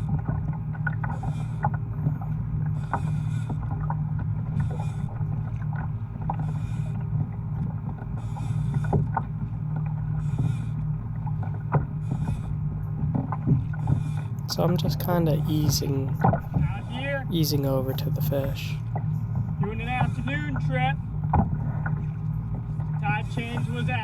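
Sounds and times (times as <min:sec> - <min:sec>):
steady low rumble: 0:00.0 - 0:24.0
water slapping against kayak hull: 0:00.0 - 0:24.0.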